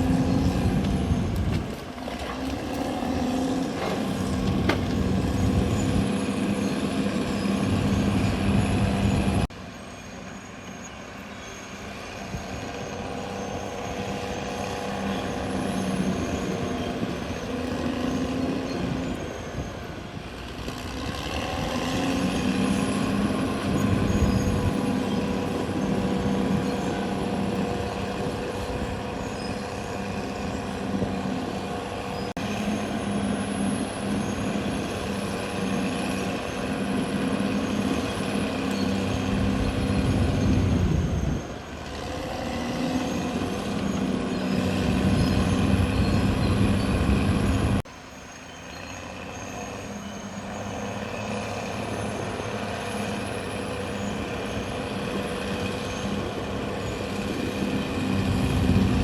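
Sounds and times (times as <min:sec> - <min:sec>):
bulldozer diesel engine running: 0:00.0 - 0:10.5, 0:11.2 - 0:59.0.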